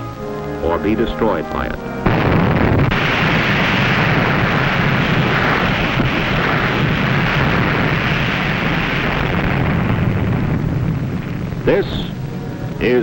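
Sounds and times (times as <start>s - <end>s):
explosion rumble: 0.6s - 13.0s.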